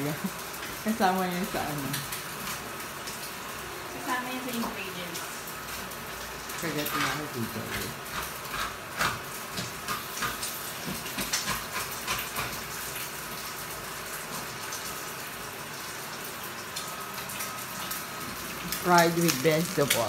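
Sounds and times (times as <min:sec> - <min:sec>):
rice sizzling in a frying pan: 0:00.0 - 0:20.0.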